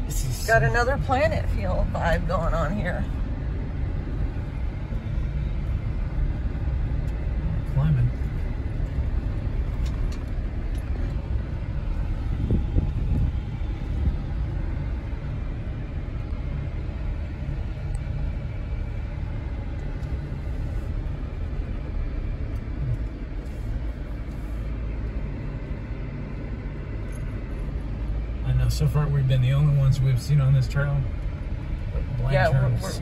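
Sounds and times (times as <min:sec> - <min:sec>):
vehicle engine and tyres rumbling: 0:00.0 - 0:33.0.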